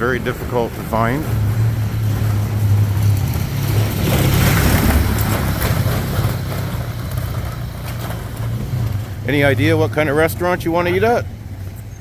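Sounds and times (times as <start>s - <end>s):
vehicle engine humming: 0.0s - 12.0s
vehicle passing by: 0.0s - 12.0s.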